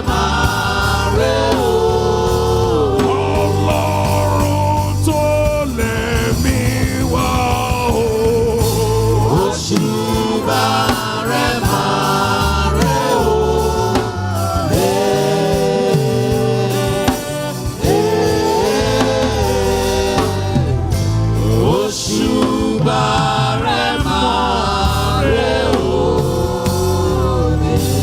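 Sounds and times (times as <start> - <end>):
instrumental backing with bass: 0.0 - 28.0
voices singing gospel song: 0.0 - 28.0.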